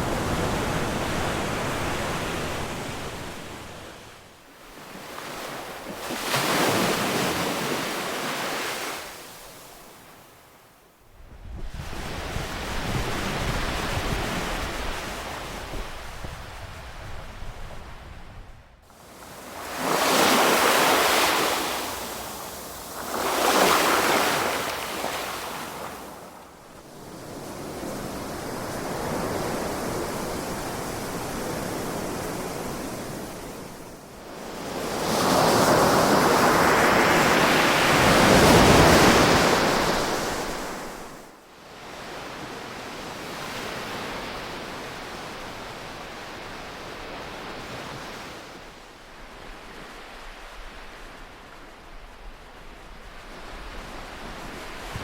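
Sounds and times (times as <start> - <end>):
ocean waves breaking on shore: 0.0 - 10.5, 18.9 - 55.0.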